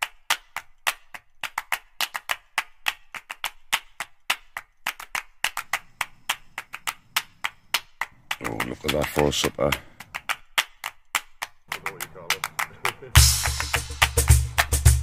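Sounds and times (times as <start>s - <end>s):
percussive clap and wood block hits: 0.0s - 15.0s.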